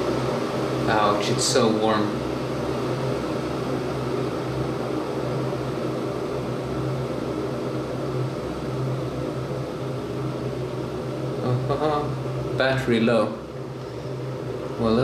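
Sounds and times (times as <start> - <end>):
water heater humming and hissing: 0.0 - 15.0.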